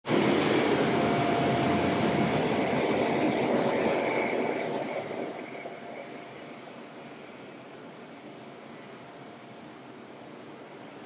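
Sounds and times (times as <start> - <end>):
jet engine rumble with whine: 0.0 - 11.0.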